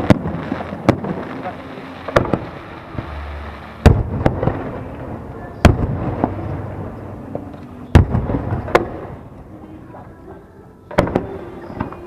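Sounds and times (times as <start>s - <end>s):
fireworks bursting: 0.0s - 9.3s, 10.9s - 12.0s
rumbling echo: 0.0s - 9.7s.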